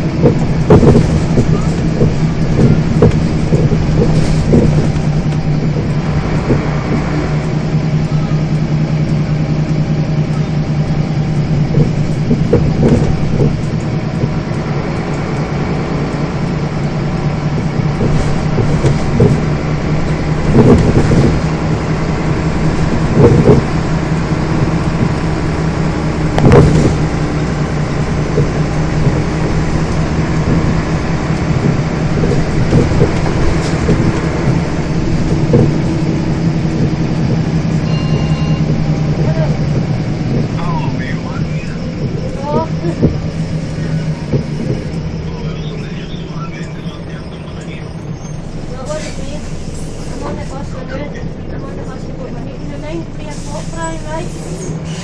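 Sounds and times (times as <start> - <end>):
body rattles and knocks: 0.0 - 46.2
bus engine drone: 0.0 - 55.0
loud bumps: 0.0 - 55.0.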